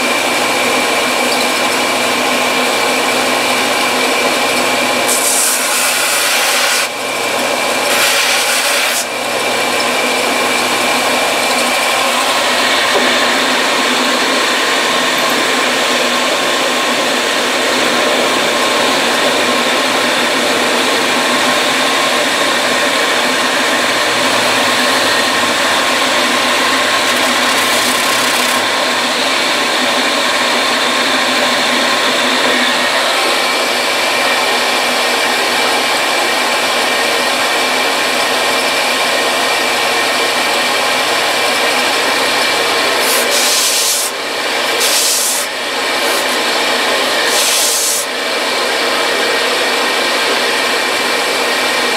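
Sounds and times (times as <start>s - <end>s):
belt sander grinding wood: 0.0s - 51.9s.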